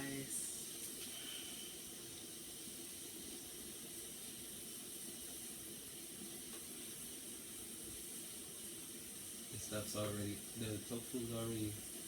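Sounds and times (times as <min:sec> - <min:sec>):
broth simmering with faint hiss: 0:00.0 - 0:12.0.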